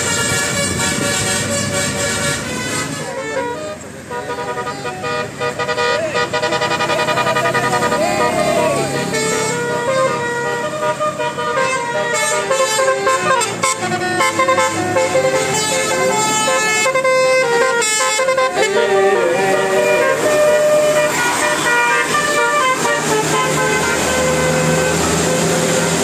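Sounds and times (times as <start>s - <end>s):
traffic: 0.0s - 26.0s
vehicle horns sounding: 0.0s - 26.0s.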